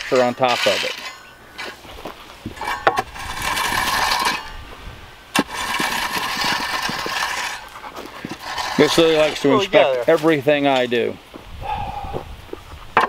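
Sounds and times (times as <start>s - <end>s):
rake scraping gravel: 0.0s - 11.2s.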